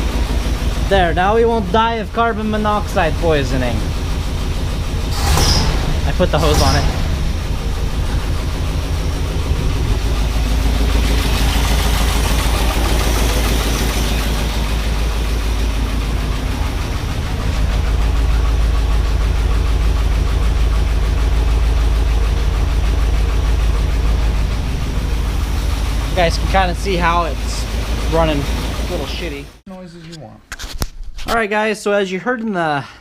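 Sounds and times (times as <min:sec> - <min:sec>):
engine idling rough with misfire: 0:00.0 - 0:29.6.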